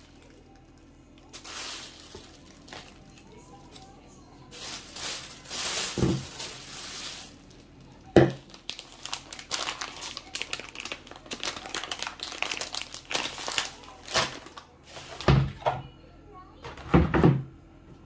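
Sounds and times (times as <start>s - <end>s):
plastic bags rustling: 0.0s - 15.6s
quick plastic crackles: 0.0s - 15.6s.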